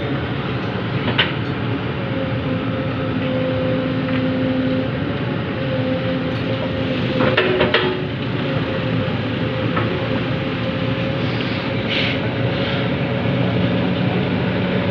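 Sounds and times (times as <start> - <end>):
hydraulic whine: 0.0 - 14.8
diesel machinery engines running: 0.0 - 14.9.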